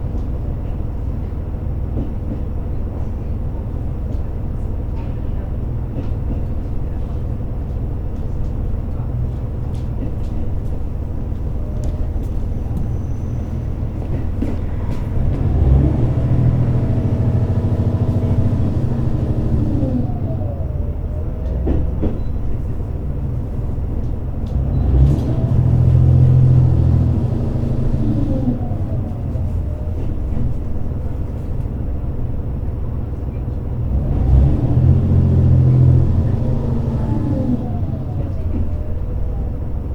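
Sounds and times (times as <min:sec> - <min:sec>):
railcar low rumble with whining tones: 0:00.0 - 0:39.9.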